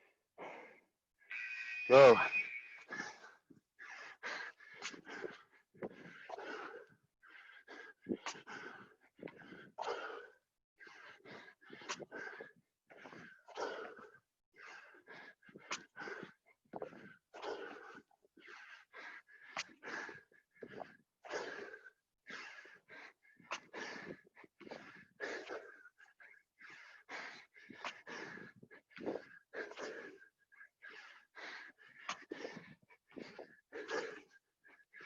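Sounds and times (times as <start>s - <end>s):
people panting heavily: 0.0s - 1.0s, 2.8s - 35.0s.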